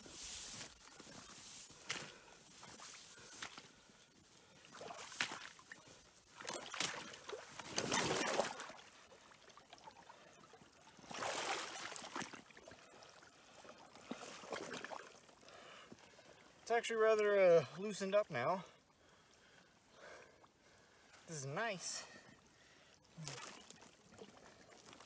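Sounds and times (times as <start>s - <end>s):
mud and water sloshing: 0.0s - 17.8s, 22.0s - 25.0s.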